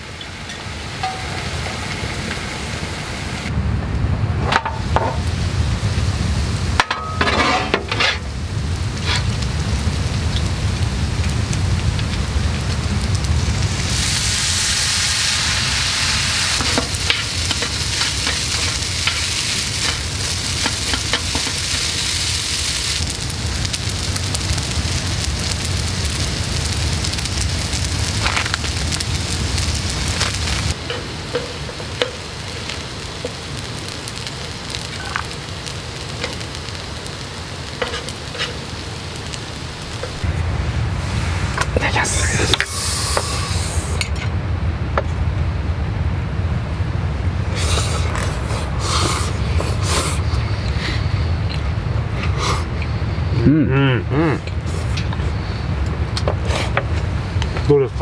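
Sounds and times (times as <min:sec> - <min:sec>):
noodles and meat sizzling: 0:00.0 - 0:03.5, 0:04.4 - 0:57.6
low rumble: 0:00.7 - 0:31.5, 0:33.4 - 0:58.0.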